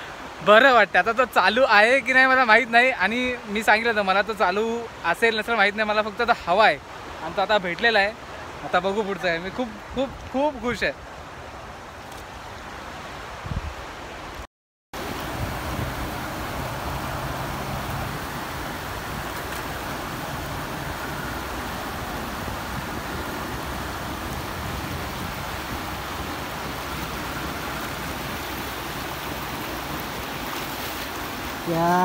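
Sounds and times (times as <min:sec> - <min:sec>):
river rushing over rapids: 0:00.0 - 0:14.4, 0:15.0 - 0:32.0.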